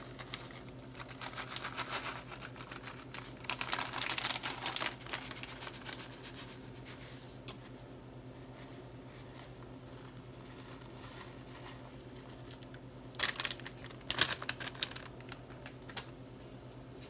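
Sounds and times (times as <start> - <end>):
plastic bag crinkling: 0.0 - 6.8, 8.4 - 16.2.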